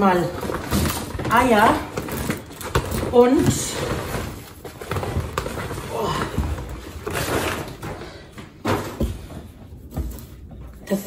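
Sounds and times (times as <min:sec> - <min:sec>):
items knocking: 0:00.0 - 0:11.0.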